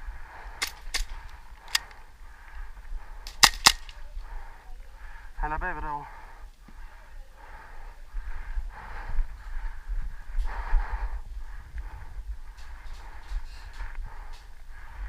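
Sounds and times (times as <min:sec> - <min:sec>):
low wind rumble: 0:00.0 - 0:15.0
person breathing heavily: 0:00.0 - 0:15.0.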